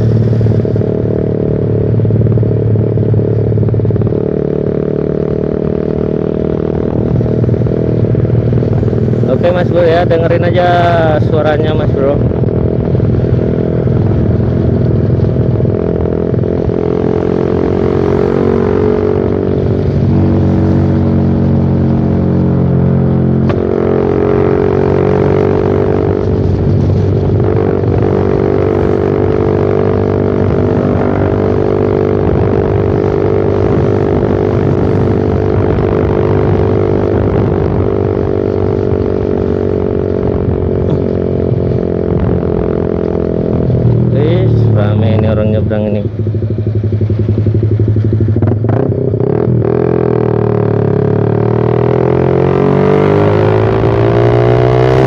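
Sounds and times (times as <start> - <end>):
motorcycle exhaust drone: 0.0 - 55.0.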